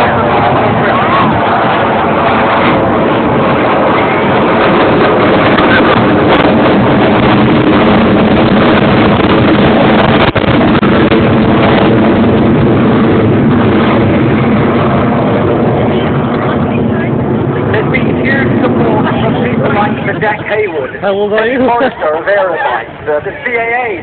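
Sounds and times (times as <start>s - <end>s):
loud jet engine noise: 0.0s - 24.0s
wind on microphone: 0.0s - 24.0s.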